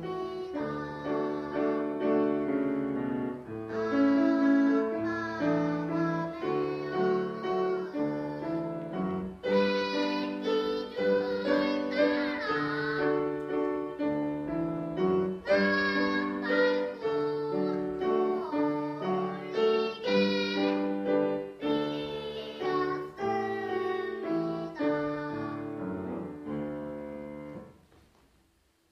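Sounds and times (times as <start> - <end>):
child singing: 0.0 - 2.5, 3.7 - 13.6, 15.2 - 26.1
piano accompaniment: 0.0 - 28.6.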